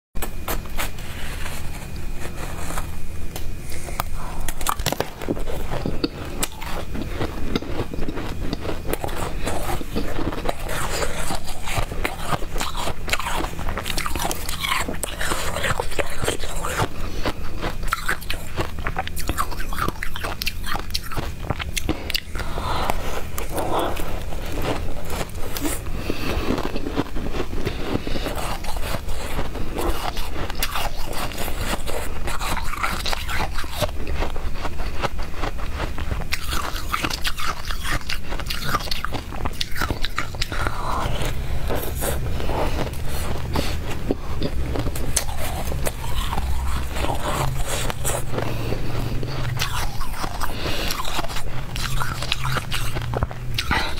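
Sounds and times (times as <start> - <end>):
crunching and chewing ice: 0.2 - 53.9.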